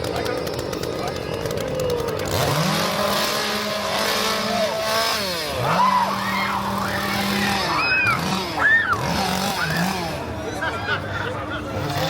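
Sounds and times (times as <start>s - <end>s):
chainsaw revving: 0.0s - 12.0s.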